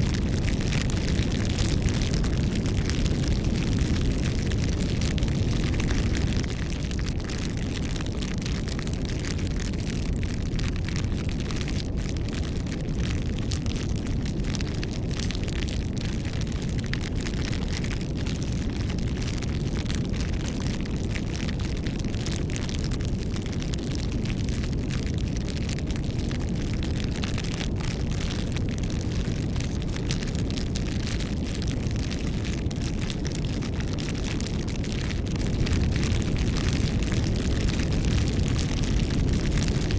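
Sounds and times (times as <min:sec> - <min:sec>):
fire crackling and popping: 0:00.0 - 0:39.9
fire rushing: 0:00.0 - 0:39.9.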